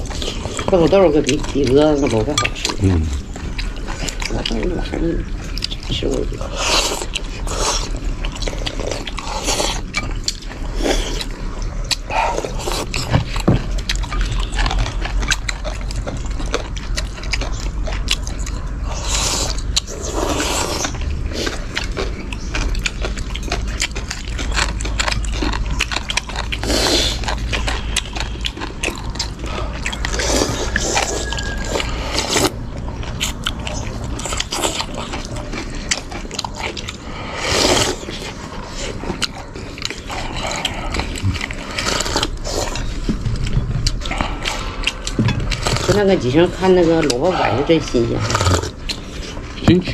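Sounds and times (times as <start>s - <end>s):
people chewing: 0.0s - 49.9s
steady low hum: 0.0s - 49.9s.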